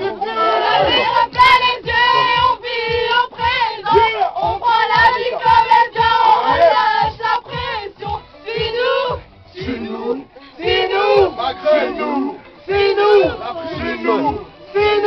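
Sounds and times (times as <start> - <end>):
steady low beat: 0.0 - 15.0.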